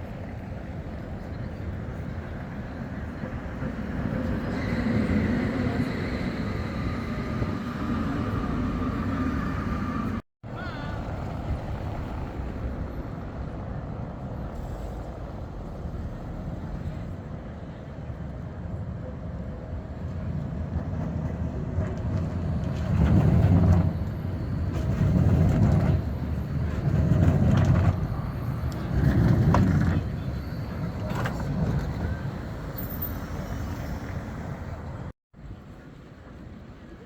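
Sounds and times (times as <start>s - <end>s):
street traffic: 0.0s - 37.0s
tram rumbling: 0.0s - 37.0s.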